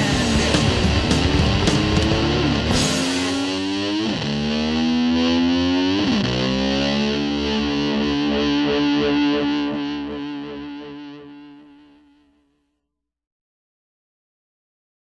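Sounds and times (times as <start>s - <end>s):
distorted electric guitar: 0.0s - 12.4s.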